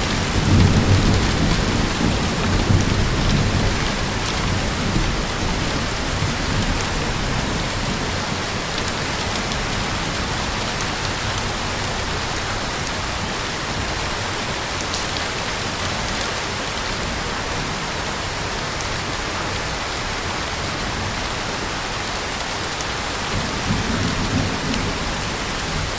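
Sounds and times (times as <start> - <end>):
raindrop ticks: 0.0 - 19.2, 22.0 - 25.9
heavy rain falling: 0.0 - 25.9.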